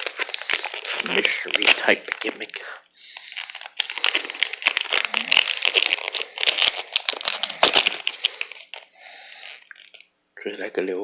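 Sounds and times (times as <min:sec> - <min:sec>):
toy bag crinkling: 0:00.0 - 0:10.1.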